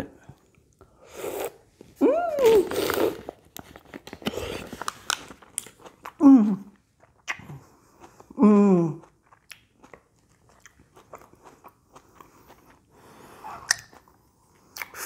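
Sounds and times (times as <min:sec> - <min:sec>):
chewing tomato: 0:02.7 - 0:15.0.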